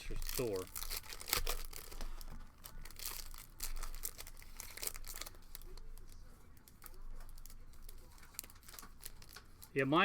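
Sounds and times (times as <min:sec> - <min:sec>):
foil wrappers crinkling and tearing: 0:00.0 - 0:10.0.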